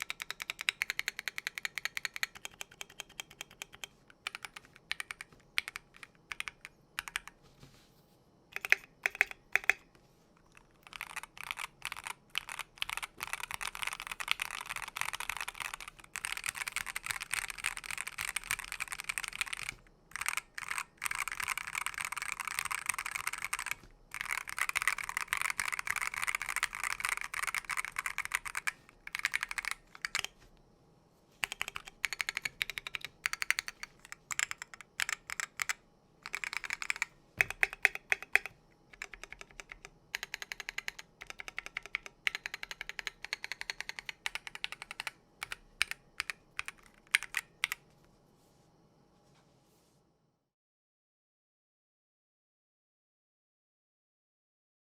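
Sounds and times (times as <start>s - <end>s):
typing on mechanical keyboard: 0.0s - 7.4s, 8.6s - 30.4s, 31.4s - 47.9s.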